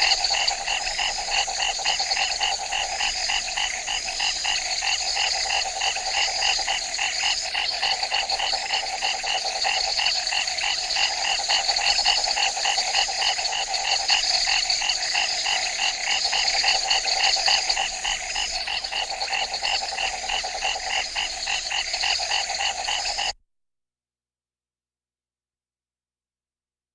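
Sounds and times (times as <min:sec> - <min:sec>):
frogs croaking: 0:00.0 - 0:23.4.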